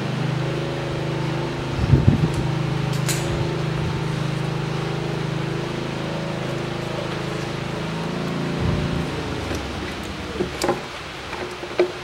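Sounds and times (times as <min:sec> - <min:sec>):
steady machine drone: 0:00.0 - 0:12.0.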